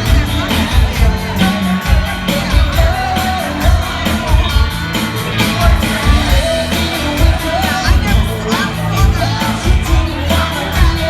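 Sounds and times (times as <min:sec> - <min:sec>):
live rock band playing: 0:00.0 - 0:11.0
person singing: 0:00.0 - 0:11.0.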